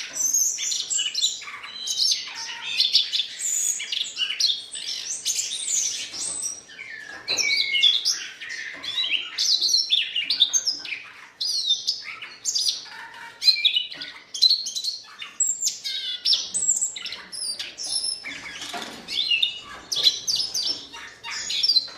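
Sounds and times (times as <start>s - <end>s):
bird warbling song: 0.0s - 21.9s.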